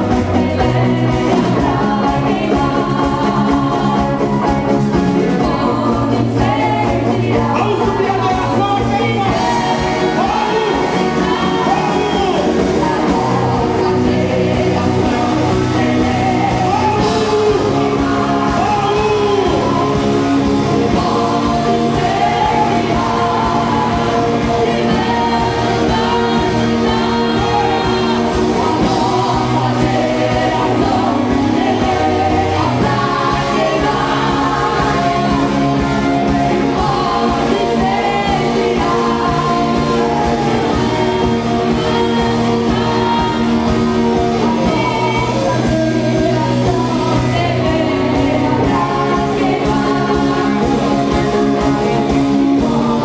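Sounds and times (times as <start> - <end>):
band playing with drum beat: 0.0 - 53.0
person singing: 0.0 - 53.0.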